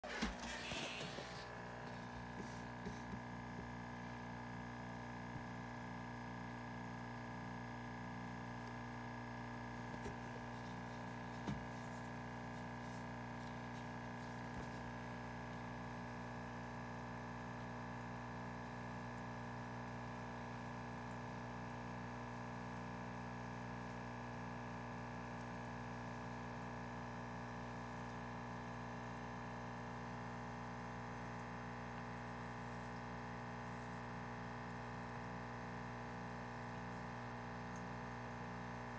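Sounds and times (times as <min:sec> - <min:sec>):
low electrical hum: 0:00.1 - 0:38.9.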